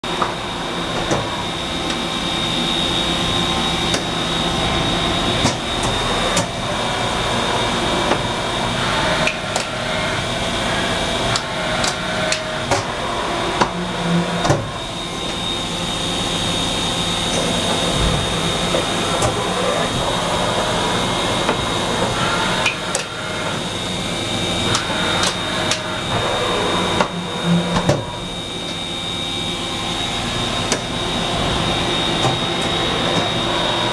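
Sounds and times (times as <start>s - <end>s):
machine high whine and hum: 0.0s - 33.9s.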